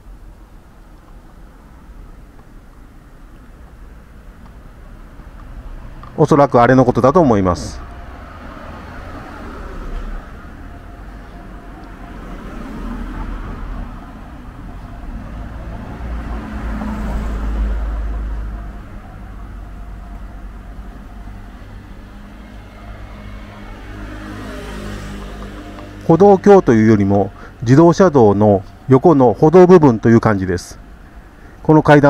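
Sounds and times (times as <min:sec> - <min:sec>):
low traffic rumble: 0:00.0 - 0:32.0
vehicle passing: 0:03.5 - 0:32.0.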